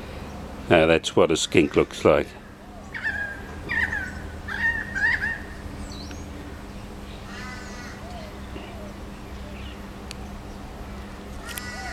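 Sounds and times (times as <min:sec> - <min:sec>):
birds calling: 0:00.0 - 0:11.9
faint steady hum: 0:00.0 - 0:11.9.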